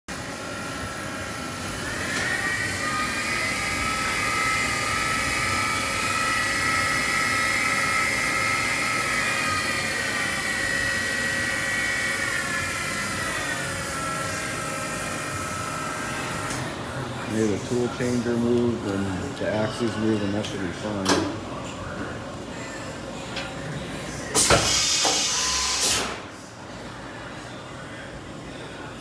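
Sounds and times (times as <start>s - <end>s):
machine motor whine: 0.1s - 28.6s
steady machine hum: 0.1s - 29.0s.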